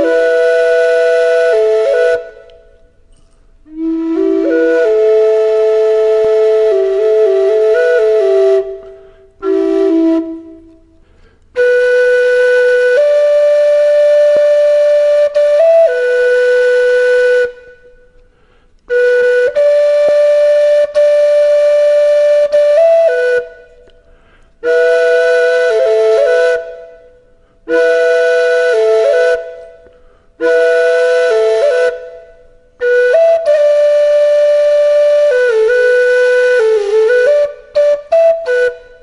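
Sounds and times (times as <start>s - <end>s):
solo flute melody: 0.0s - 39.0s.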